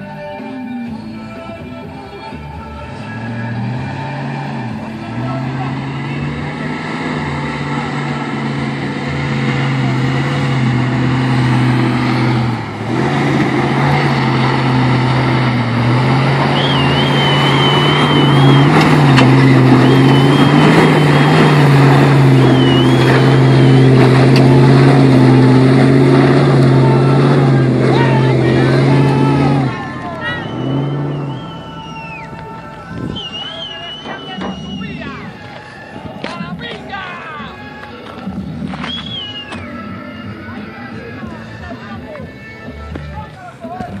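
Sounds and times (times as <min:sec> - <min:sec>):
truck engine running under load: 0:00.1 - 0:44.0.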